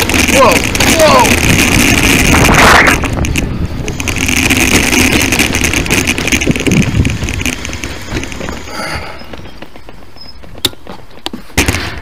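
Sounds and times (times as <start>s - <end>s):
wind buffeting microphone: 0.0s - 10.8s
bicycle tyres rumbling: 0.0s - 12.0s.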